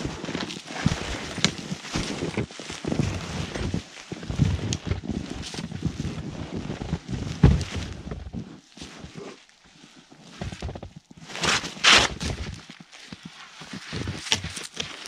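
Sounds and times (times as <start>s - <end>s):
boots crunching in snow: 0.0s - 9.4s, 10.1s - 15.0s.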